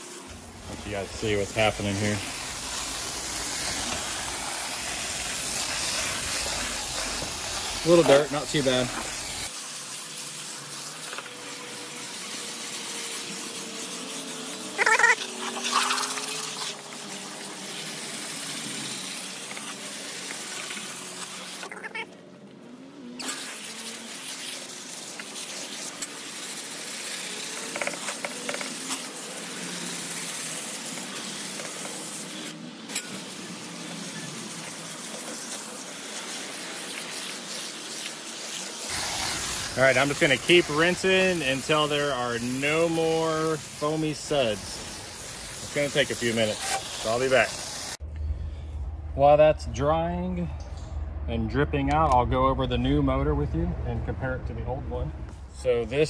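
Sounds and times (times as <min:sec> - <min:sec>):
hose nozzle spraying water: 0:00.0 - 0:22.1, 0:23.2 - 0:48.0.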